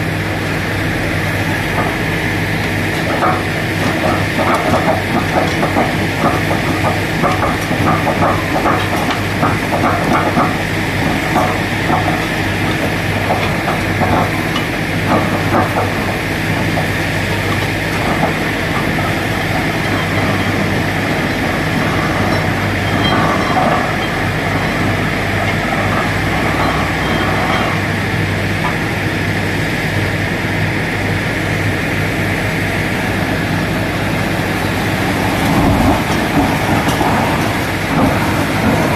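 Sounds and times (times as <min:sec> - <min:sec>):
engine and air compressor running: 0:00.0 - 0:38.9.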